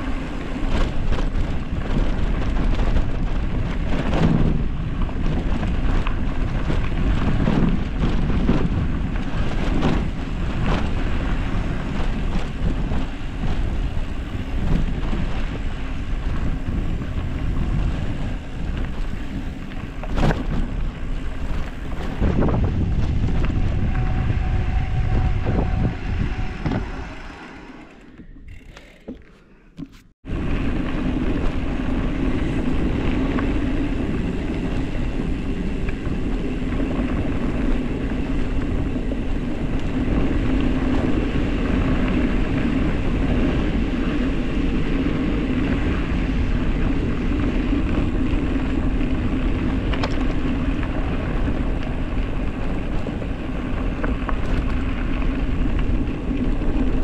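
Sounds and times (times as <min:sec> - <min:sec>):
wind rush: 0:00.0 - 0:29.0, 0:30.1 - 0:57.0
tyre rumble on dirt road: 0:00.0 - 0:57.0.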